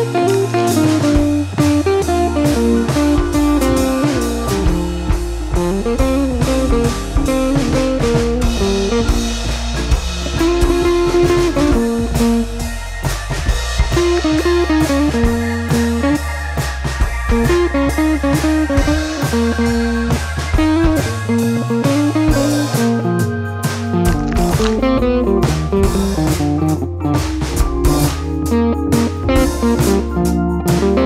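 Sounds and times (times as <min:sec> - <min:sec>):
instrumental music with guitar and drums: 0:00.0 - 0:31.0.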